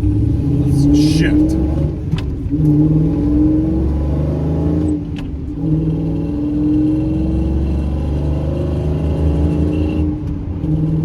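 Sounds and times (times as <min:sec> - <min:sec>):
truck engine accelerating: 0:00.0 - 0:11.0.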